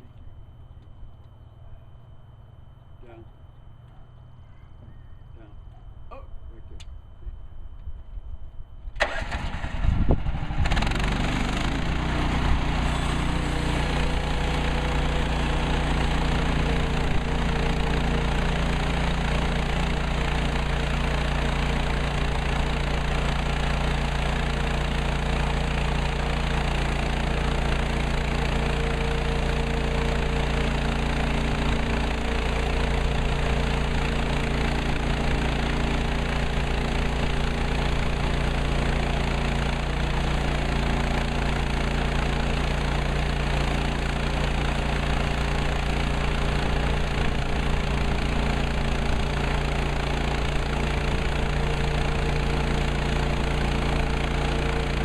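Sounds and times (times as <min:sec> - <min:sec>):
sawmill engine running: 0:09.0 - 0:55.0.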